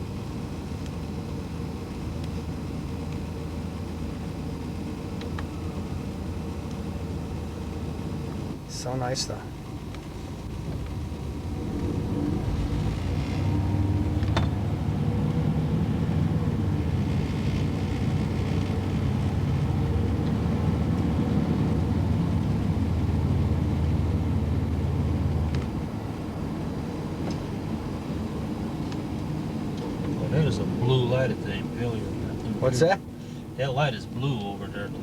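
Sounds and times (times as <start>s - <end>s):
car engine and road drone: 0.0s - 35.0s.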